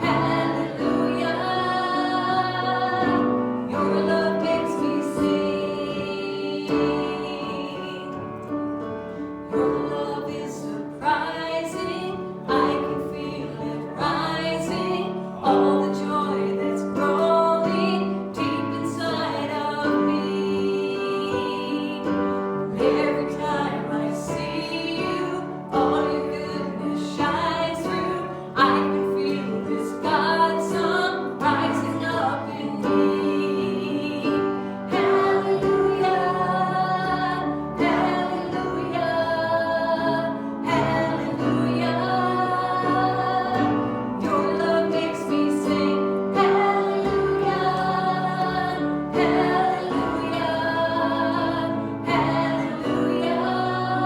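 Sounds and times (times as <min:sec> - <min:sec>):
woman singing worship song: 0:00.0 - 0:08.5, 0:09.5 - 0:54.0
instrumental accompaniment: 0:00.0 - 0:54.0.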